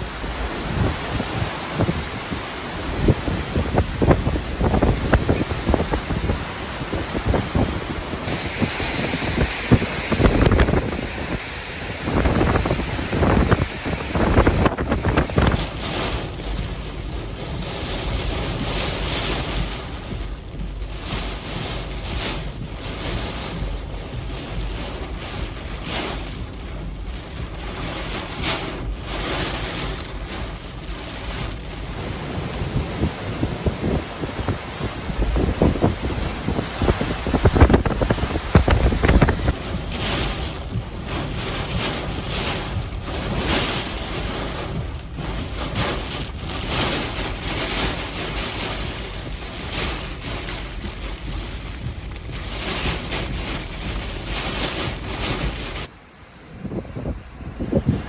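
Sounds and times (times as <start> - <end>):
strong wind buffeting microphone: 0.0 - 58.0.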